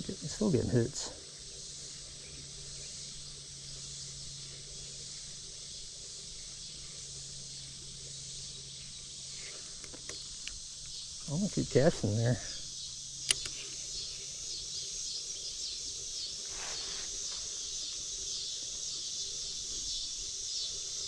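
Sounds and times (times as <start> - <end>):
faint low hum: 0.0 - 21.0
shrill insect chorus: 0.0 - 21.0.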